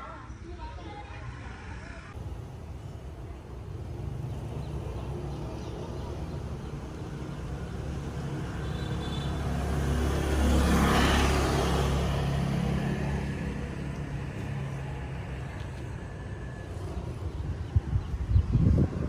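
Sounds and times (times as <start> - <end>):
motorbike passing by: 3.4 - 19.0.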